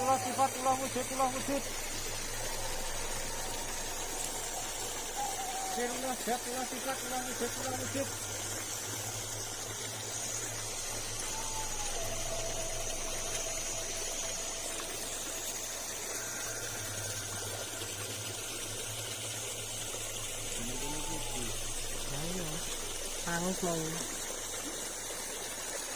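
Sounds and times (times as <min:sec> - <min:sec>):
low hum: 0:00.2 - 0:24.2.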